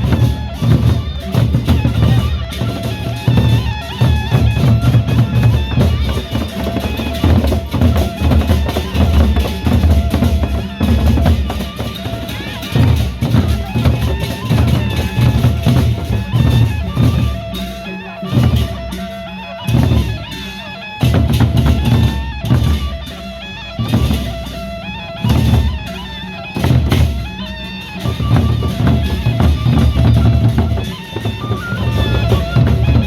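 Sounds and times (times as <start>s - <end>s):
loud live band music: 0.0s - 33.0s.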